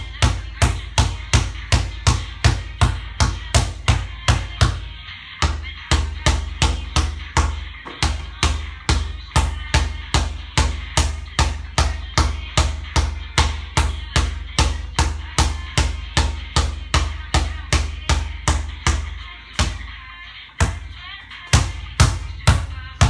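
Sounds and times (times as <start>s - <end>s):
basketball bouncing on hard court: 0.0s - 20.0s, 20.6s - 23.0s.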